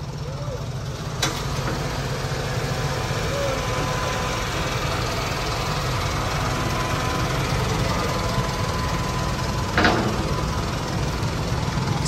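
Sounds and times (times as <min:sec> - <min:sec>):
diesel engine idling: 0:00.0 - 0:12.0
thin steady whine: 0:01.3 - 0:12.0.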